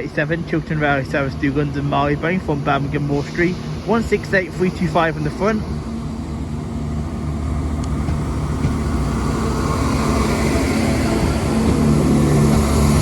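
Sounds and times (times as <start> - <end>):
diesel train engines running: 0.0 - 13.0.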